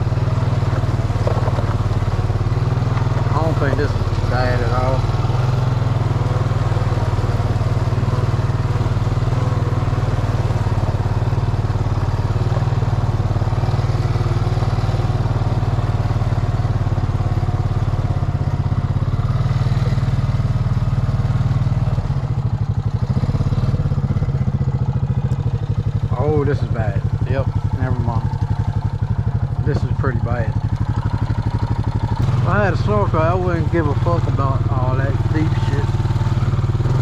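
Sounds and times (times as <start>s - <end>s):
atv engine running under load: 0.0s - 37.0s.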